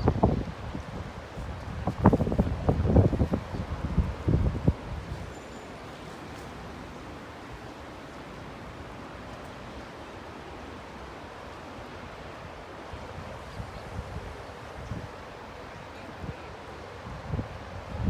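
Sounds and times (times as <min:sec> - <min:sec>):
wind gusts on microphone: 0:00.0 - 0:18.0
river water rushing: 0:00.1 - 0:18.0.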